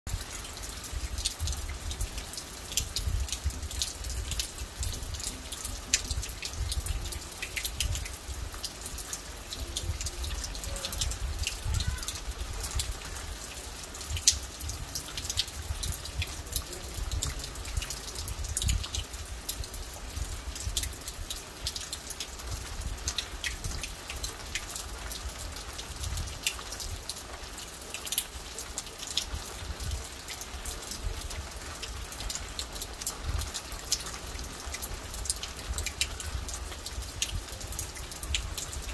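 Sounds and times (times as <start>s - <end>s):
raindrops tapping on car roof: 0.1s - 38.9s
steady rain hiss: 0.1s - 38.9s.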